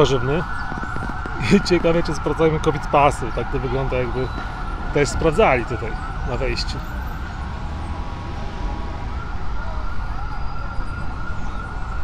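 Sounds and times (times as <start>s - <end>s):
city street traffic rumble: 0.0s - 12.0s
siren steady high tone: 0.0s - 12.0s.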